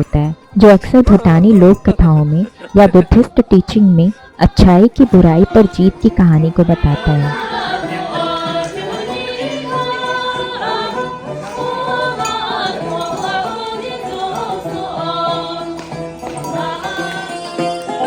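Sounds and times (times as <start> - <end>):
group of voices singing held notes: 0.0 - 18.0.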